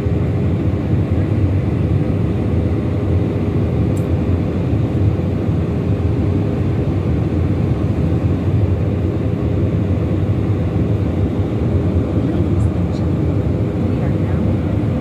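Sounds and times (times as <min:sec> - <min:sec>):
engine and air roar: 0:00.0 - 0:15.0.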